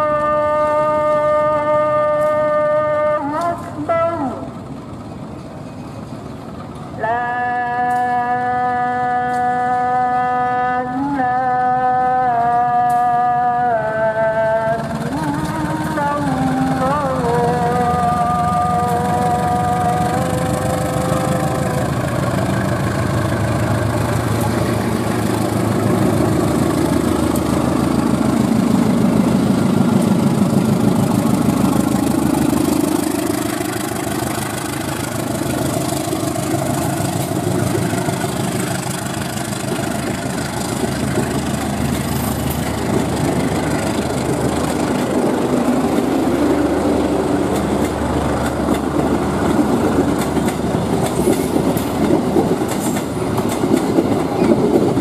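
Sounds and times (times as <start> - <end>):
locomotive engine running: 0.0 - 55.0
train wheels rolling on rails: 0.0 - 55.0.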